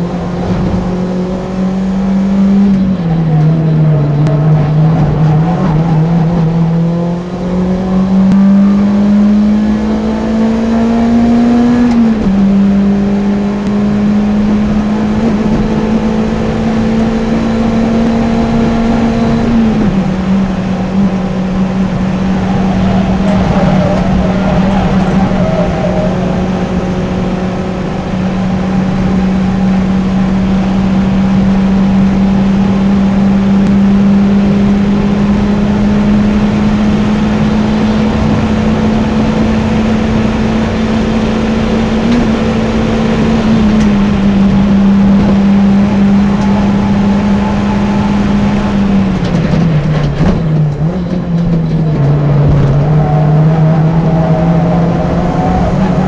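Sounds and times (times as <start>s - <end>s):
car engine at high revs: 0.0s - 56.0s
wind and tyre noise: 0.0s - 56.0s.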